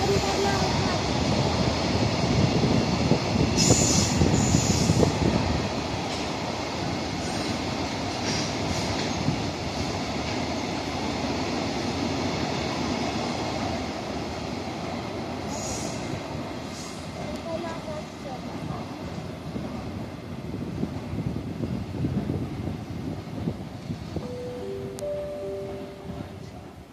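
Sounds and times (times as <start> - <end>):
freight train wheels rumbling on rail: 0.0 - 26.9.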